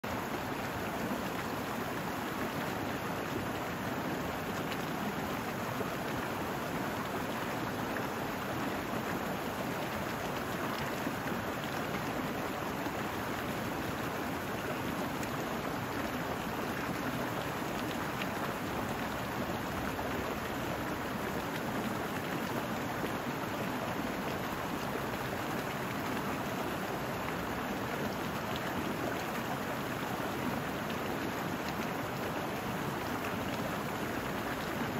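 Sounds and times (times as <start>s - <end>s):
brook running over rocks: 0.0s - 34.9s.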